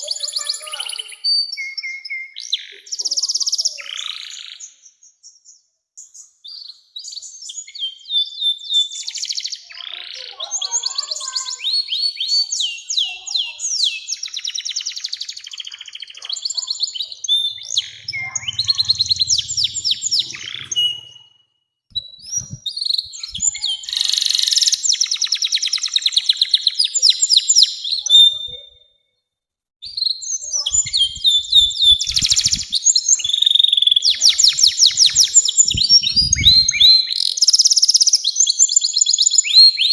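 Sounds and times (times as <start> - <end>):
canary singing trills: 0.0 - 29.0, 29.8 - 39.9.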